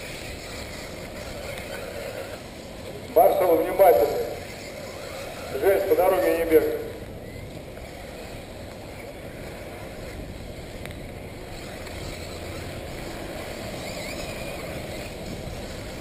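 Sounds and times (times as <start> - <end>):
electric motors whining: 0.0 - 16.0
steady background rush: 0.0 - 16.0.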